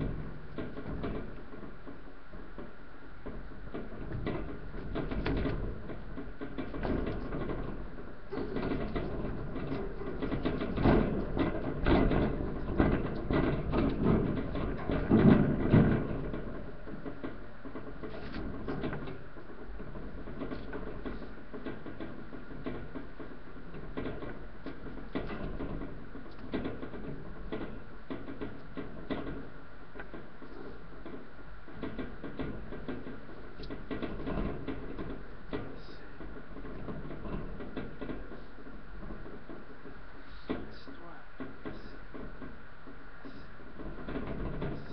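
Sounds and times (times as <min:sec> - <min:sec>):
small clicks and scratches: 0:00.0 - 0:44.9.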